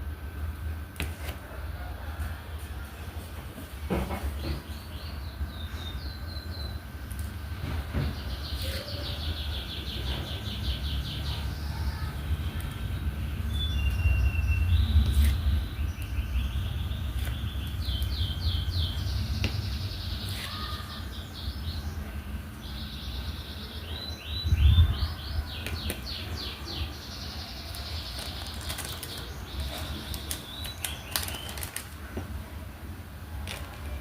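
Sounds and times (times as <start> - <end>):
small birds chirping: 4.2 - 32.0.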